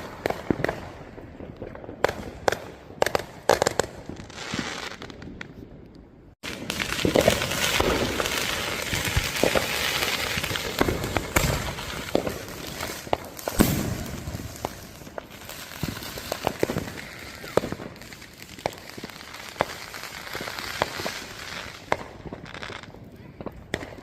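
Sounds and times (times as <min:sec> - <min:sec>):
fireworks crackle: 0:00.0 - 0:05.7, 0:06.4 - 0:24.0
fireworks bangs and pops: 0:00.0 - 0:24.0.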